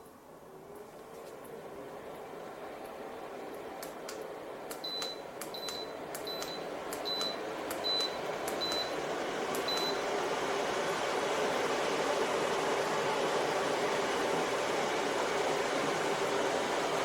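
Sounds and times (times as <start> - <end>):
fan rushing: 0.0 - 17.0.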